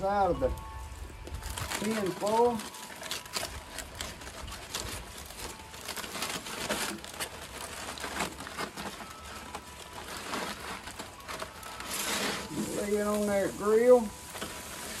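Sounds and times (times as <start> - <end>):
tin foil crinkling: 0.0 - 15.0.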